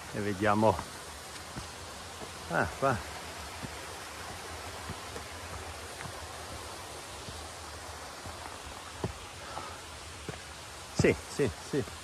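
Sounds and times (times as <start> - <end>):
stream rushing over small waterfalls: 0.0 - 12.0.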